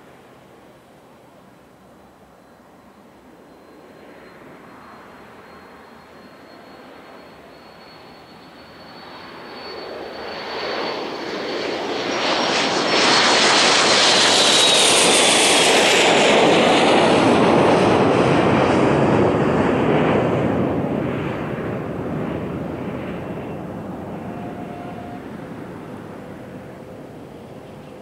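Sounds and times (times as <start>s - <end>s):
jet engine whine and rush: 0.0s - 28.0s.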